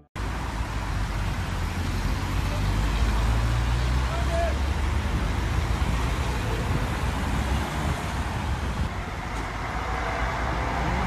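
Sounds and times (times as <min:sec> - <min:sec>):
motorway traffic rumble: 0:00.0 - 0:11.0.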